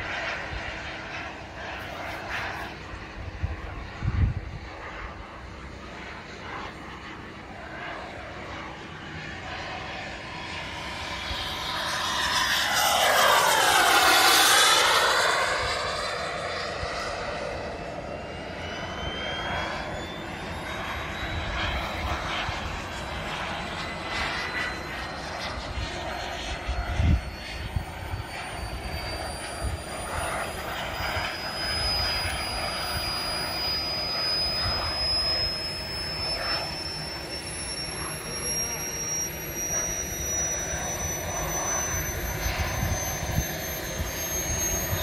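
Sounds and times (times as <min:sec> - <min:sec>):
model jet turbine whine: 0:00.0 - 0:45.0.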